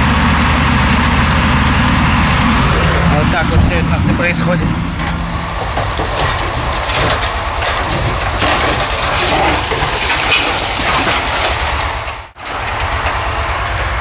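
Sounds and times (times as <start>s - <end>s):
truck engine running: 0.0s - 14.0s
metal crunching and scraping: 0.1s - 14.0s.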